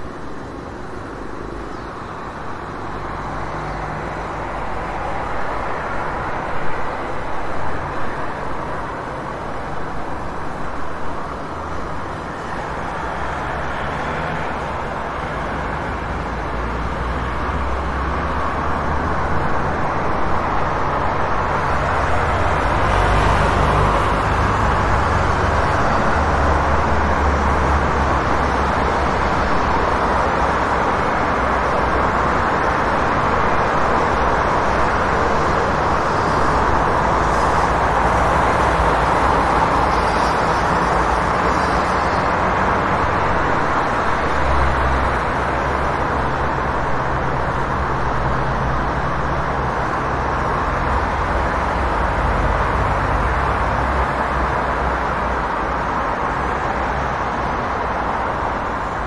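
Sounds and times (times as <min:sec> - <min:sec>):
passing cars: 0:00.0 - 0:59.0.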